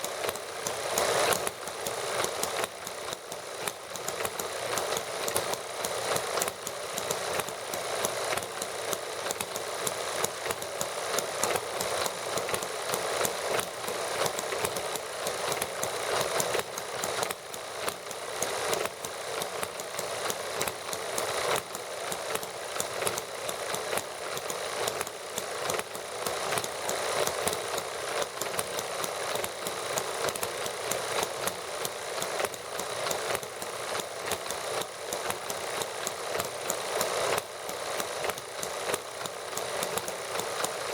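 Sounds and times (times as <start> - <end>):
model gasoline engines running: 0.0 - 40.9.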